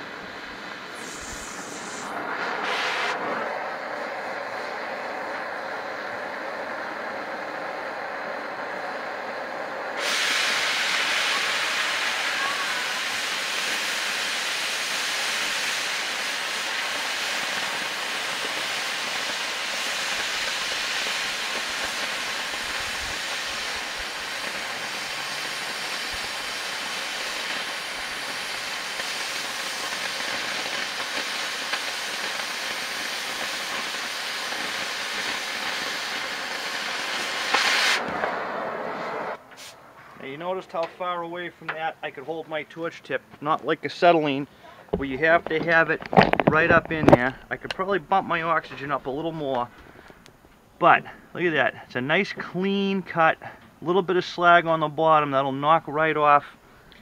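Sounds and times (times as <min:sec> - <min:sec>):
cutting torch hissing: 0:00.0 - 0:40.9, 0:41.6 - 0:53.0.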